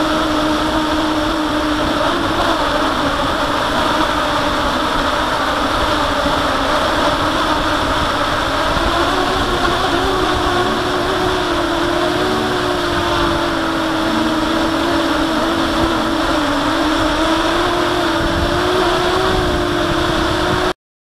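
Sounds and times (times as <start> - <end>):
rushing air noise: 0.0 - 20.7
quadcopter motors droning: 0.0 - 20.8.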